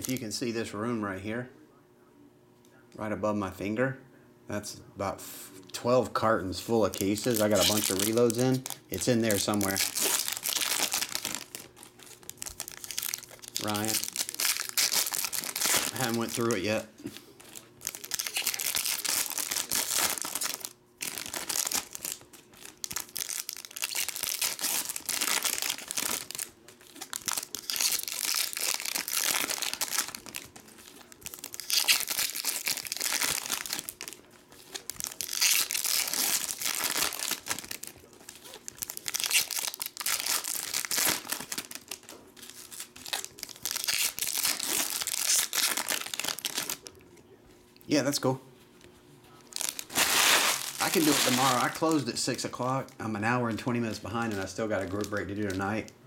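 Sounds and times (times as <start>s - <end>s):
foil wrappers crinkling and tearing: 6.6s - 47.0s, 49.5s - 55.9s.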